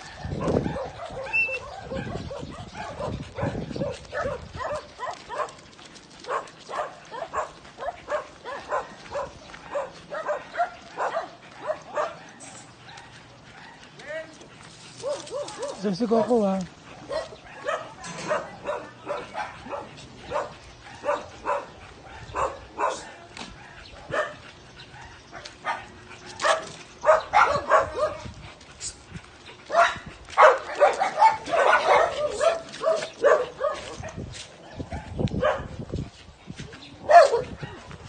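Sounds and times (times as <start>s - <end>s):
small dog barking: 0.0s - 5.6s, 6.3s - 13.8s, 15.0s - 16.4s, 17.1s - 24.4s, 25.0s - 28.3s, 29.7s - 35.8s, 37.0s - 37.9s.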